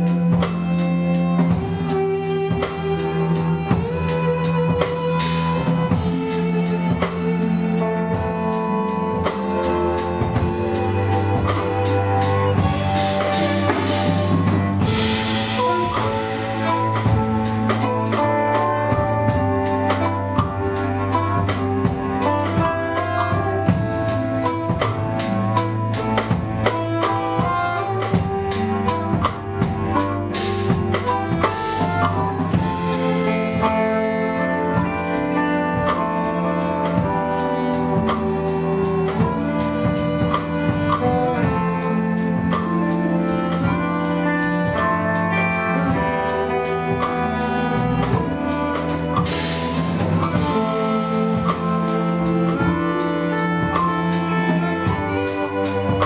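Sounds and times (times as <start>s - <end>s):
bass: 0.0s - 56.0s
drum kit beat: 0.0s - 56.0s
saxophone: 0.0s - 56.0s.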